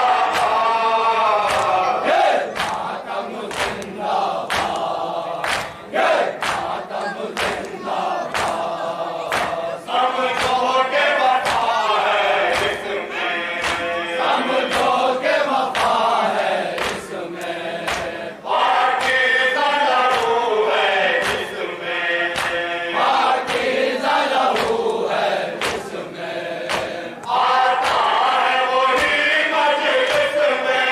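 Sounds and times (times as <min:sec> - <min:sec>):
men chanting in unison: 0:00.0 - 0:30.9
rhythmic chest-beating thumps: 0:00.0 - 0:30.9.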